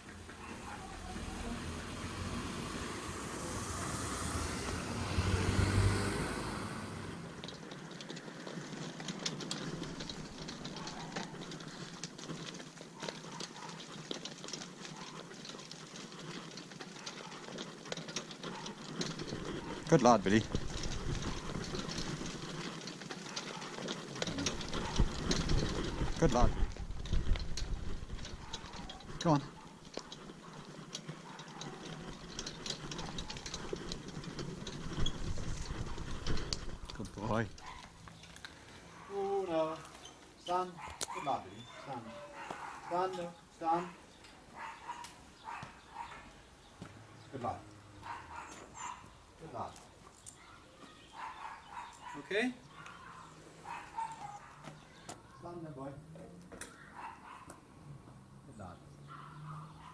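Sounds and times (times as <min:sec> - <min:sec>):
cart rolling over gravel: 0:00.0 - 0:59.9
pony hooves clopping: 0:00.0 - 0:59.9.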